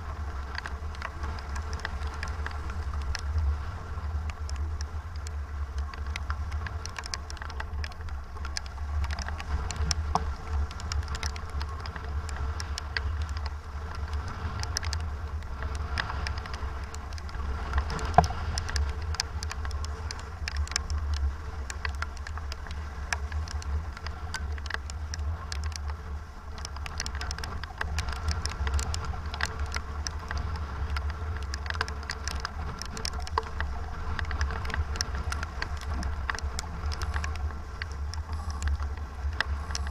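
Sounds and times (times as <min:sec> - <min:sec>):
rain and spray patter: 0:00.0 - 0:39.9.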